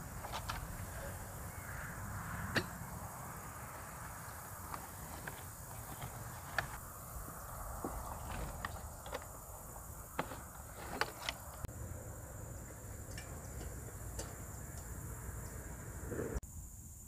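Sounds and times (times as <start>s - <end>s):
insect drone: 0.0s - 17.0s.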